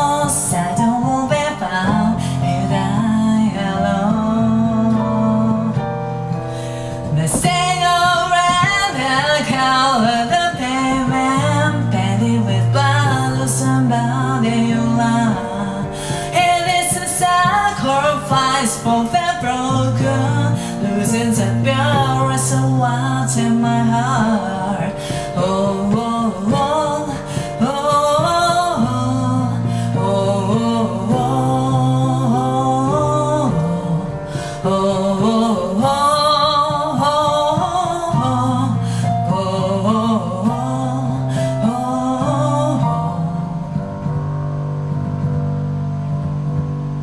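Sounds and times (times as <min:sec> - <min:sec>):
woman singing ballad: 0:00.0 - 0:44.3
piano chords: 0:00.0 - 0:47.0.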